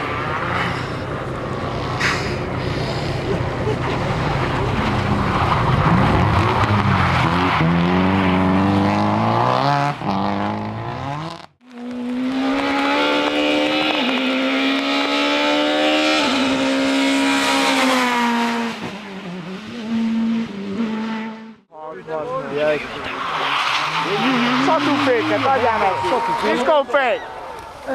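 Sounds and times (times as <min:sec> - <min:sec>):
rally car engine at full throttle: 0:00.0 - 0:26.5.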